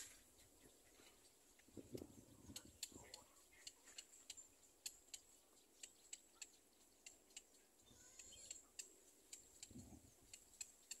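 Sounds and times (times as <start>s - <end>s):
faint sharp clicks: 1.6s - 7.6s, 8.2s - 11.0s.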